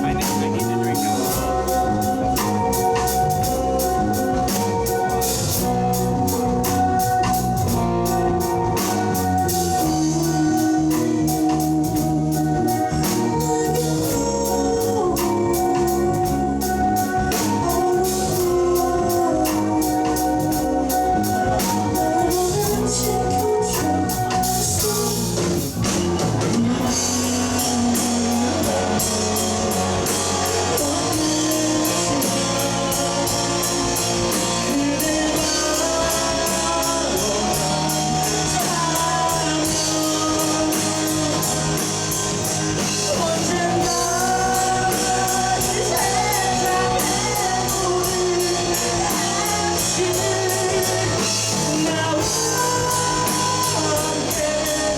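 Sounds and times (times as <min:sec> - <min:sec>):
bass guitar: 0:00.0 - 0:54.9
drum kit with cymbal strokes: 0:00.0 - 0:54.9
electric guitars: 0:00.0 - 0:54.9.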